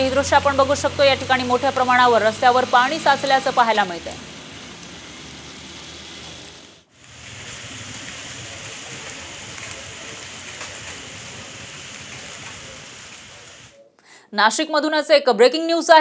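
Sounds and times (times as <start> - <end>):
heavy rain on standing water: 0.0 - 13.8.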